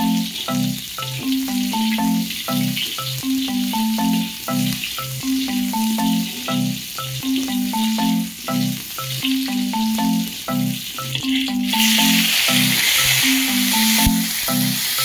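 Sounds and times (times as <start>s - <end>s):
background music: 0.0s - 15.0s
vegetables sizzling in a pan: 0.0s - 15.0s.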